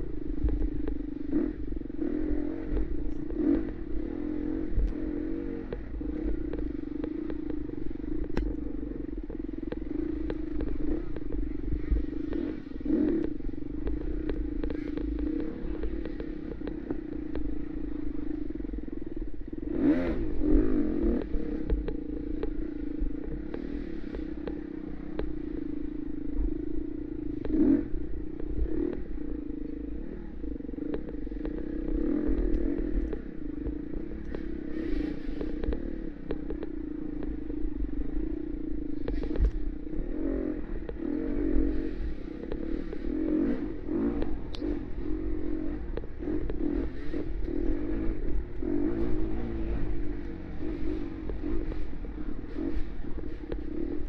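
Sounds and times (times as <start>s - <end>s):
dirt bike engine running: 0.0s - 54.0s
low rumble: 0.0s - 54.0s.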